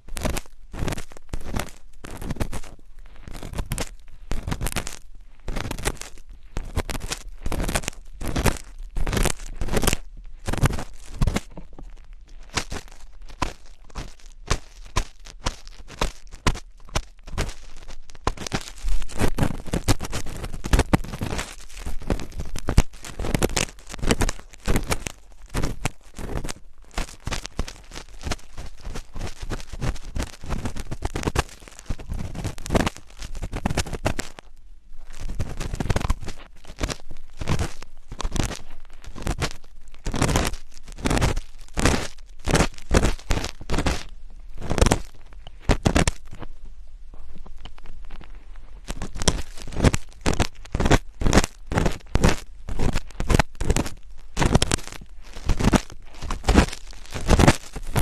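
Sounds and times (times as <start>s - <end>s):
scratching and rubbing: 0.0s - 46.6s, 47.2s - 58.0s.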